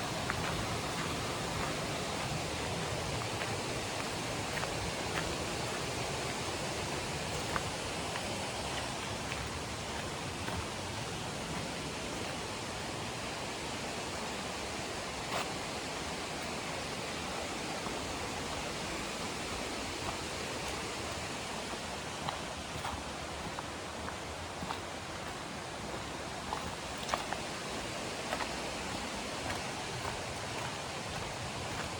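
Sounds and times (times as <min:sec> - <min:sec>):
river rushing: 0:00.0 - 0:31.9.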